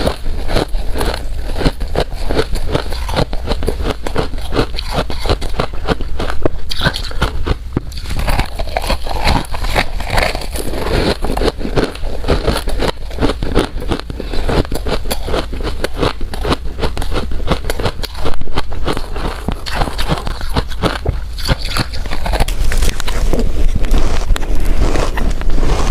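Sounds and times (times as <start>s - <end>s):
ice being chewed: 0.0s - 25.9s.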